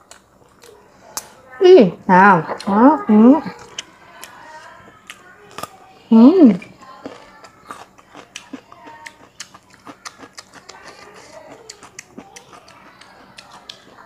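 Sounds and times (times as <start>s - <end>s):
chewing crunchy cucumber: 0.0s - 1.3s, 3.4s - 14.0s.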